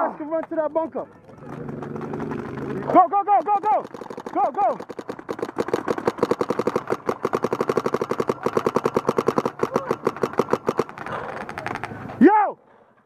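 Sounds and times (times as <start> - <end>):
paintball marker rapid firing: 1.1 - 12.1.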